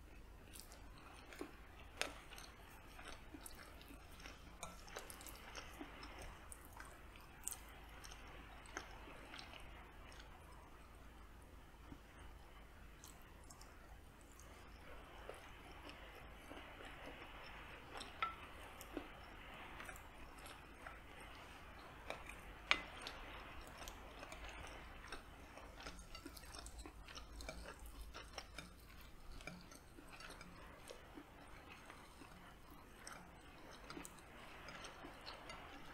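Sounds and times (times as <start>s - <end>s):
soft chewing: 0.0s - 35.9s.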